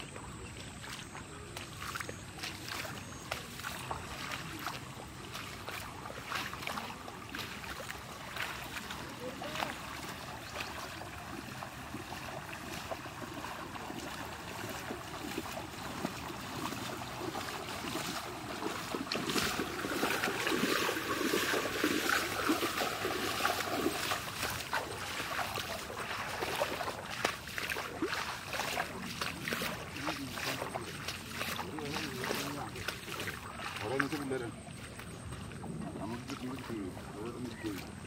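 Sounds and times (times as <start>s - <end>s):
water running and splashing: 0.0s - 38.0s.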